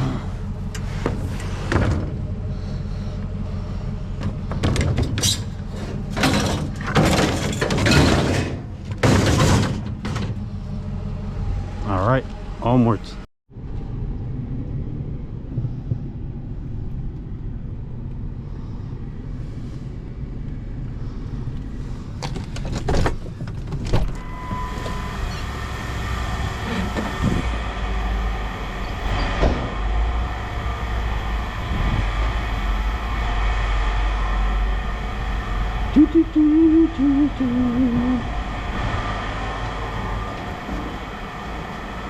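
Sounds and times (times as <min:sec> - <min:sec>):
road rumble: 0:00.0 - 0:42.0
vehicle engine: 0:00.0 - 0:42.0.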